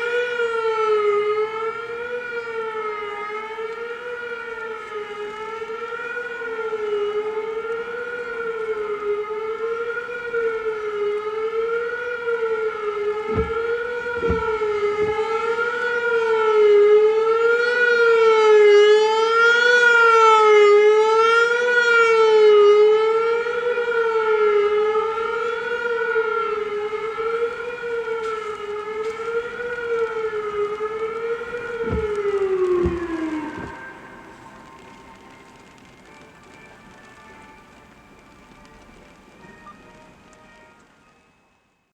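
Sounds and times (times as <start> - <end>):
wavering tornado siren: 0.0 - 41.9.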